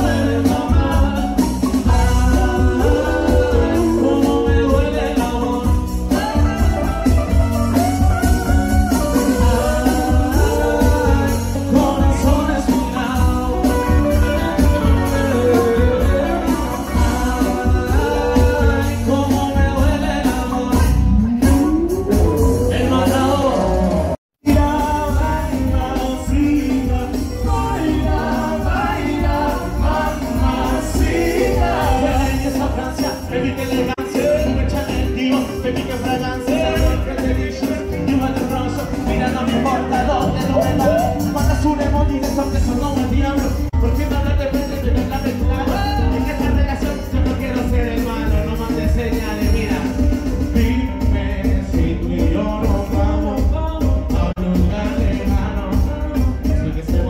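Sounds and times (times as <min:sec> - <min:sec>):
bass: 0:00.0 - 0:57.0
drums: 0:00.0 - 0:57.0
keyboard: 0:00.0 - 0:57.0
man singing: 0:00.0 - 0:57.0.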